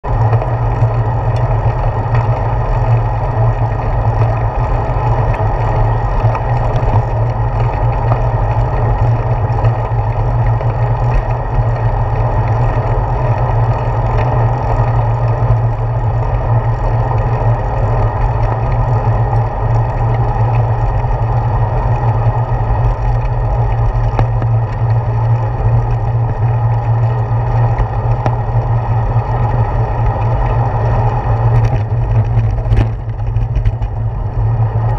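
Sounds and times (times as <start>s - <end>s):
bicycle tyres rumbling on path: 0.0s - 34.9s
wind on camera: 0.0s - 34.9s.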